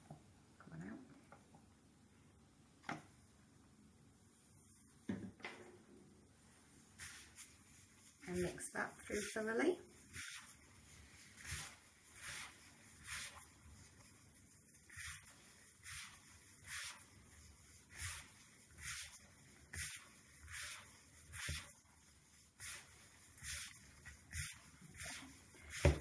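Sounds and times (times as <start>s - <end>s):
soft swishing rustles of powder: 3.0s - 5.1s, 6.2s - 26.0s.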